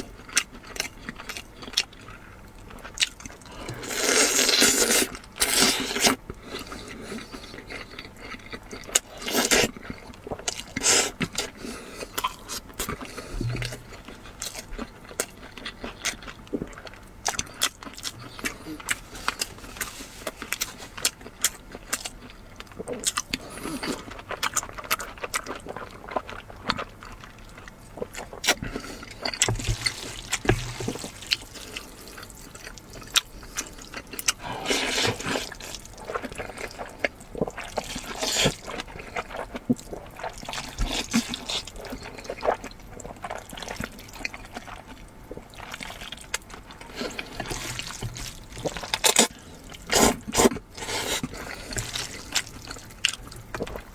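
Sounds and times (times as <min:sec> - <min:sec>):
wet chewing and slurping: 0:00.0 - 0:53.9.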